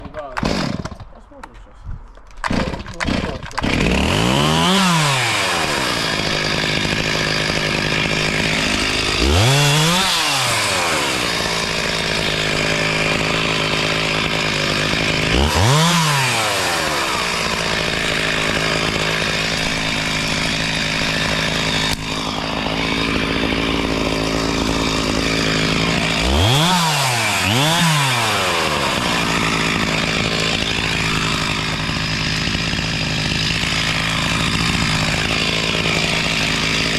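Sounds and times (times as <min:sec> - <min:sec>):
chainsaw running and revving: 0:00.0 - 0:01.0, 0:02.4 - 0:36.9.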